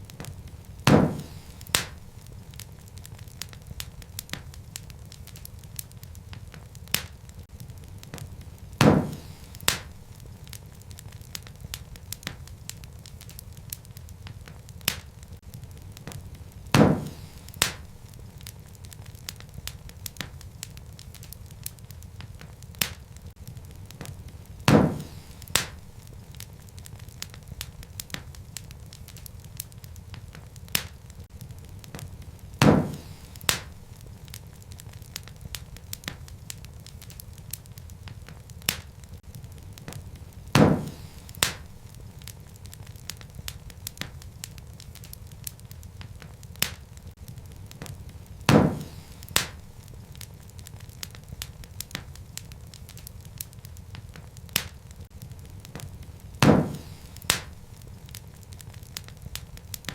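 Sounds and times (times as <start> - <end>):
loud pop of fire: 0.0 - 59.9
low rumble of flame: 0.0 - 59.9
wood fire crackling: 0.0 - 59.9.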